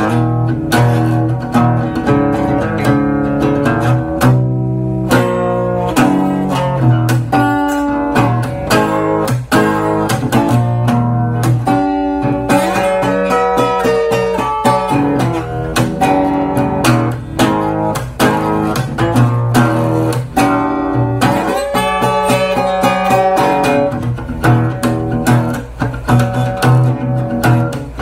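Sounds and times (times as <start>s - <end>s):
acoustic guitar rock riff: 0.0s - 28.0s.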